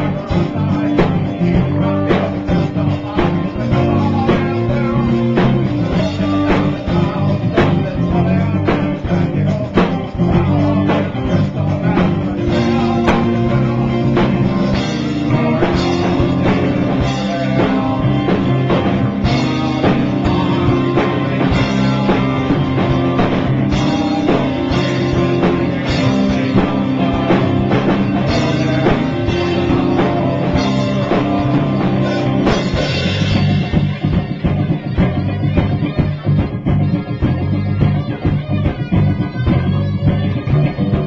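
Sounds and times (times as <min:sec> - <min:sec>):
rock music with drums and guitar: 0:00.0 - 0:41.0.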